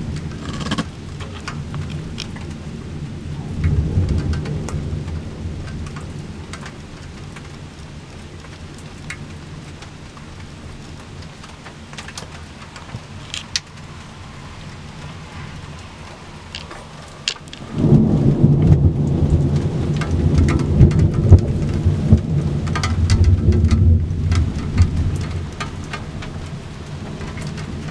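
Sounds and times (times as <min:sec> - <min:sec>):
thunder rumbling: 0:00.0 - 0:09.7, 0:12.9 - 0:27.9
rain pattering: 0:00.0 - 0:27.9.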